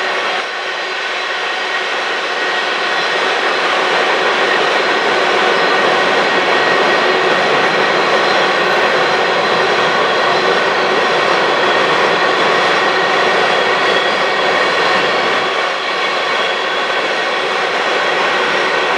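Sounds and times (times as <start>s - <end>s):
train wheels rolling on rail: 0.0s - 18.9s.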